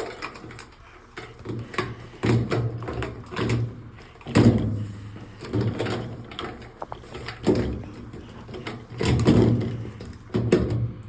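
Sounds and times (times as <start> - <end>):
valve fittings knocking and rattling: 1.2 - 10.9.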